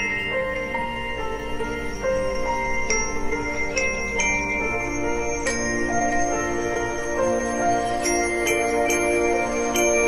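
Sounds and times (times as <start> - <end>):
instrumental music with ringing notes: 0.0 - 10.0.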